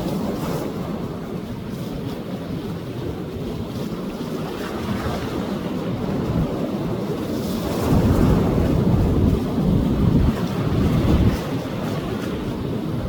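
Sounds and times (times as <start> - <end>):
sea waves surging onto beach: 0.0 - 13.0
wind buffeting microphone: 0.0 - 13.0.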